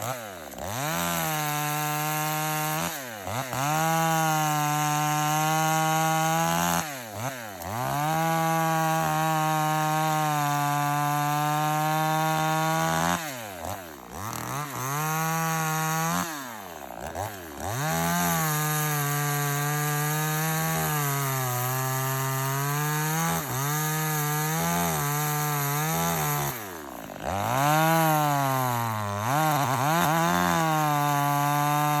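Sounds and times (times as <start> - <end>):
chainsaw running at high revs: 0.0 - 32.0.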